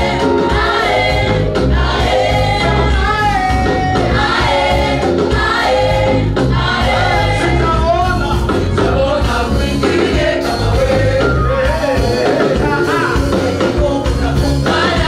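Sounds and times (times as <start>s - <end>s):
beat and bass: 0.0s - 15.0s
choir singing gospel: 0.0s - 15.0s.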